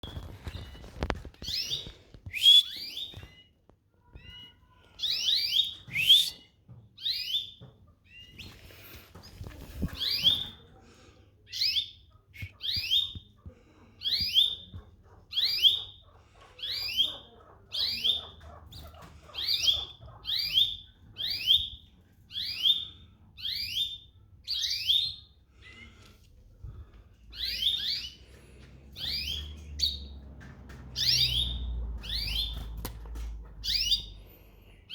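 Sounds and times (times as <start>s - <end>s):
canary chirping: 0.0s - 10.7s, 11.5s - 13.4s, 14.0s - 25.9s, 27.3s - 34.9s.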